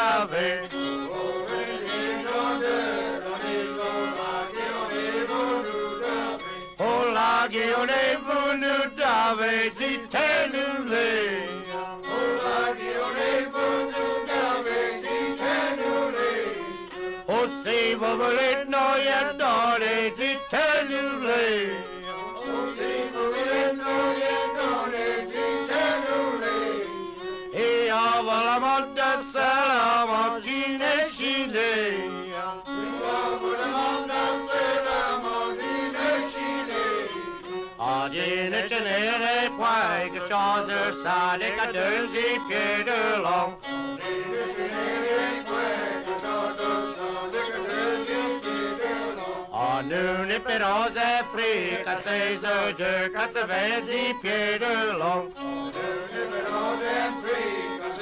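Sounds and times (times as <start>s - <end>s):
fiddle playing: 0.0s - 58.0s
men singing: 0.0s - 58.0s.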